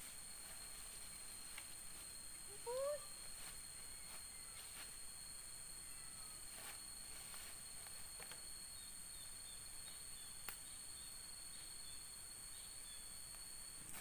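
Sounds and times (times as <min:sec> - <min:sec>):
forest insects droning: 0:00.0 - 0:14.0
thin whistling tone: 0:02.0 - 0:14.0.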